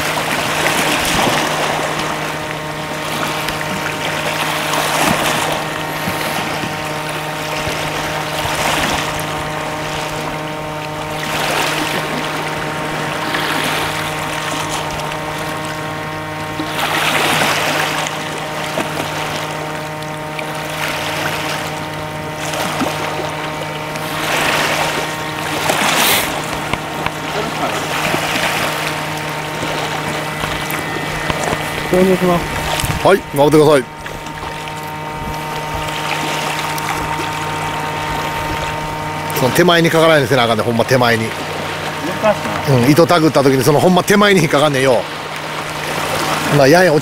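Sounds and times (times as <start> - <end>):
steady mechanical hum: 0.0 - 47.0
waves washing against rocks: 0.0 - 47.0.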